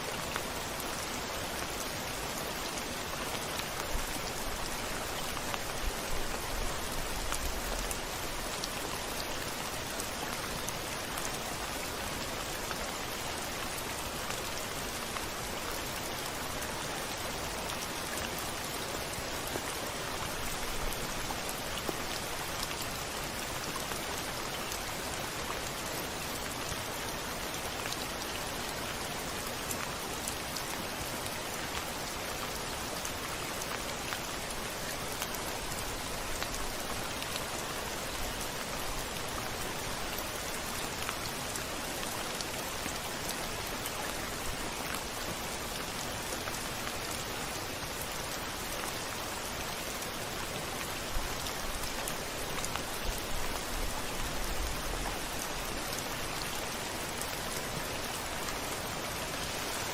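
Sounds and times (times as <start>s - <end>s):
rain falling on a window: 0.0s - 59.9s.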